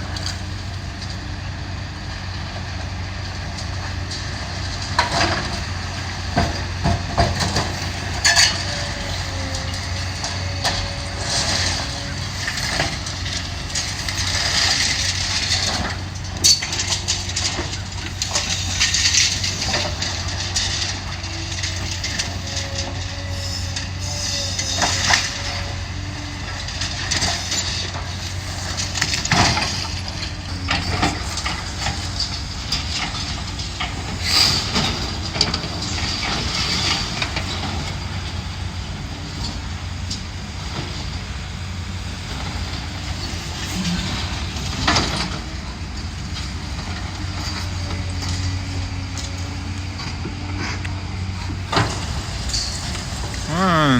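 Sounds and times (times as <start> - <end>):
diesel engine running: 0.0 - 53.9
debris crashing and clanking: 2.7 - 53.9.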